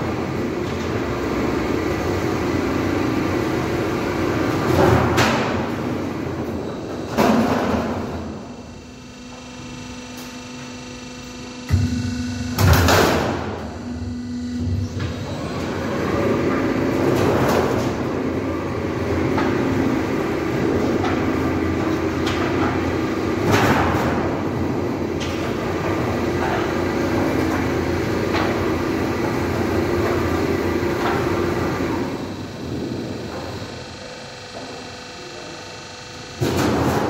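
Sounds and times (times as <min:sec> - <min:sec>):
roll forming machine hum: 0:00.0 - 0:37.0.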